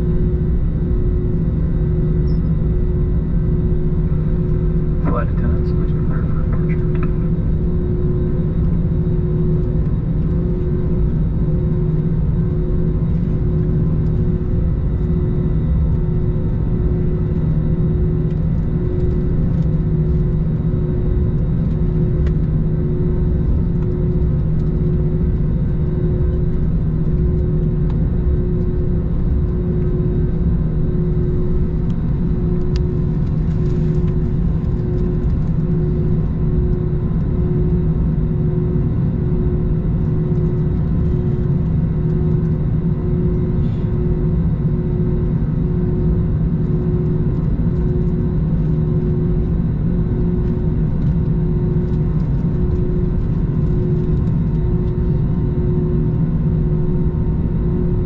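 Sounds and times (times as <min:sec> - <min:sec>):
jet engines rumbling at idle: 0:00.0 - 0:58.0
low hum: 0:00.0 - 0:58.0.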